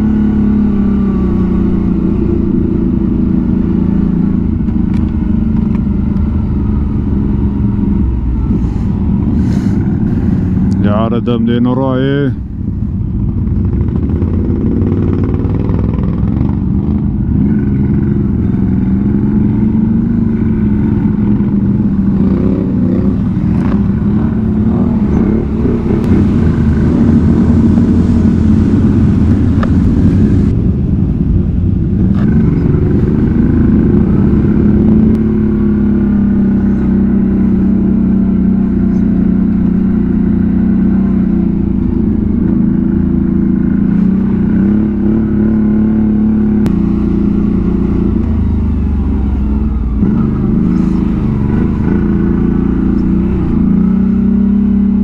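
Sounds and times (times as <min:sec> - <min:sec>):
atv engine revving: 0:00.0 - 0:12.4, 0:13.1 - 0:55.0.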